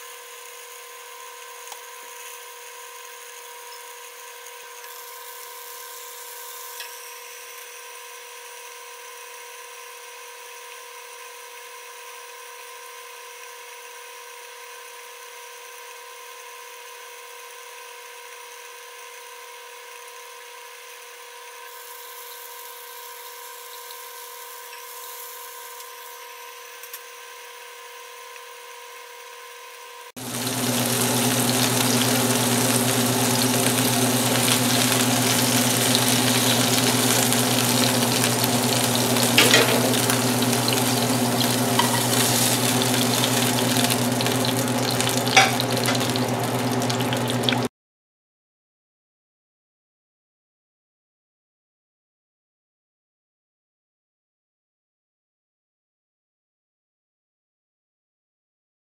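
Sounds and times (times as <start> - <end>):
chicken frying sizzle: 0.0 - 47.7.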